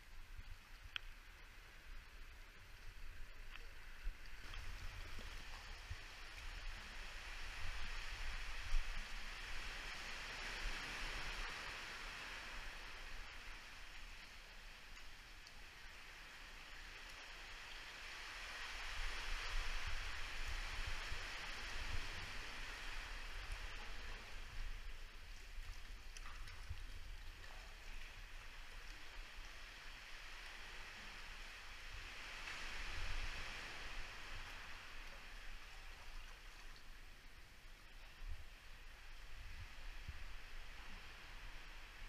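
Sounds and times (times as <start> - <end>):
seawater sloshing in a cave: 0.9 - 42.0.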